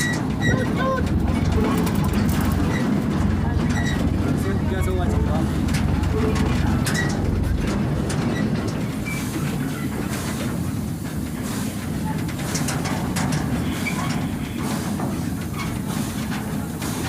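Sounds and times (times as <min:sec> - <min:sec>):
railway wagon rumbling on track: 0:00.0 - 0:17.0
wheels clicking over rails: 0:00.0 - 0:17.0.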